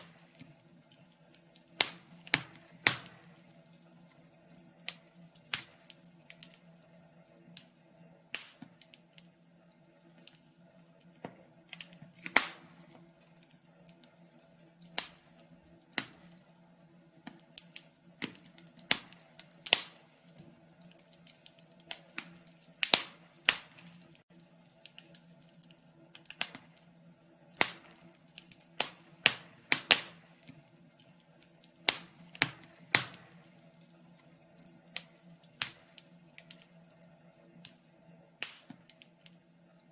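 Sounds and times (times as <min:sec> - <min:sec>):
faint steady low hum: 0:00.0 - 0:39.9
wood fire crackling: 0:00.0 - 0:39.9.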